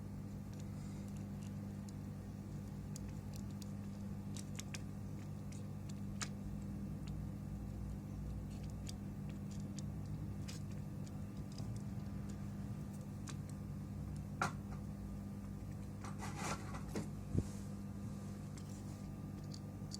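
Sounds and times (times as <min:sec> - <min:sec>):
low electrical hum: 0:00.0 - 0:19.9.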